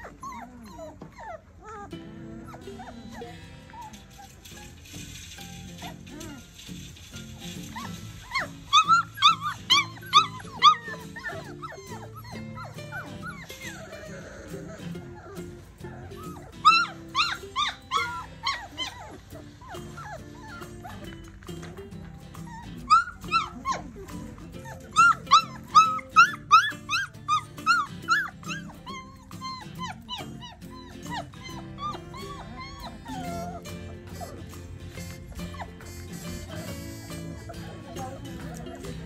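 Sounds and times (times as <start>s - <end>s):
puppies yipping and whining: 0.0s - 39.0s.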